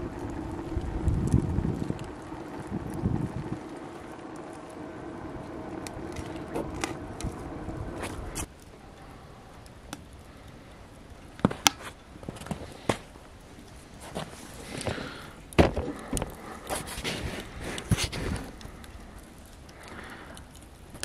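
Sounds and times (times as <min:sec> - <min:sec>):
fire crackles and pops: 0:00.0 - 0:21.0
flames rushing: 0:00.0 - 0:21.0.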